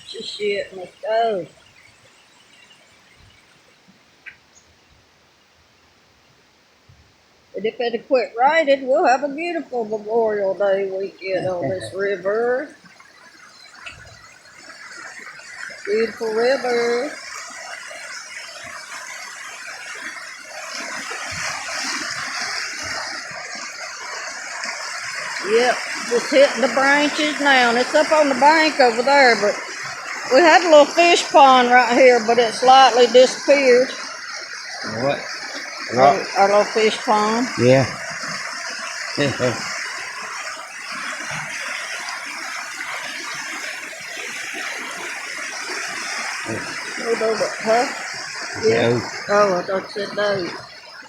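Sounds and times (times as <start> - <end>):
river rushing: 6.4 - 51.0.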